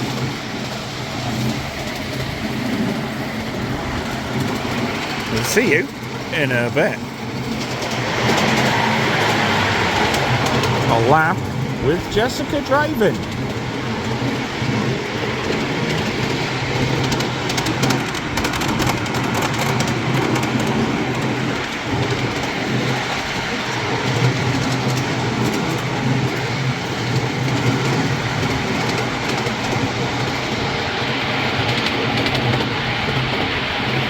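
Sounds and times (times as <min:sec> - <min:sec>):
train wheels rumbling on rail: 0:00.0 - 0:05.3, 0:07.0 - 0:11.8, 0:13.1 - 0:34.0.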